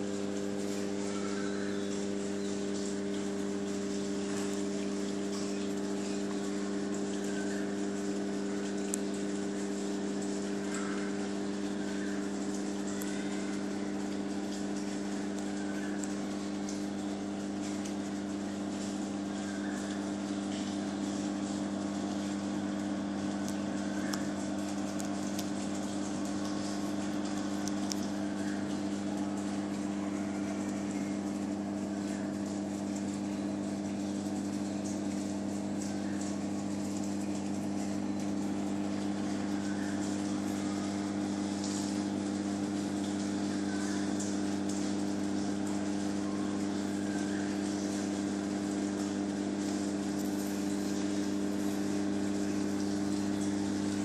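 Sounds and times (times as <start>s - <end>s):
aquarium pumps humming: 0.0s - 54.0s
fizzing crackle of water: 0.0s - 54.0s.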